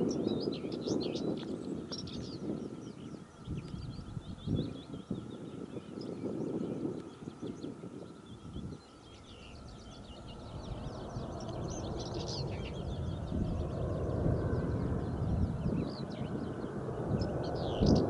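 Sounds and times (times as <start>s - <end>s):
birds singing and chirping: 0.0s - 18.0s
jet engine rumble and whine: 0.0s - 18.0s.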